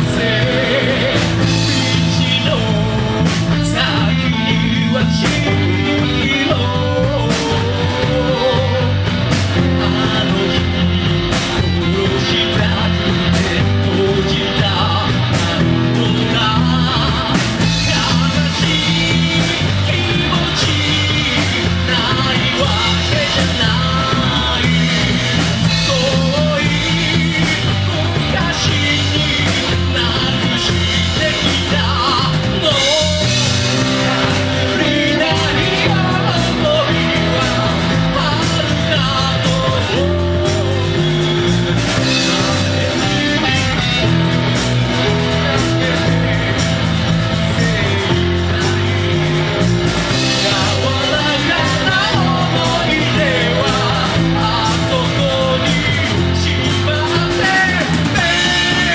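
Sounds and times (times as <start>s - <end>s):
bass guitar: 0.0s - 58.9s
drums: 0.0s - 58.9s
electric guitar: 0.0s - 58.9s
lead vocal singing: 0.0s - 58.9s.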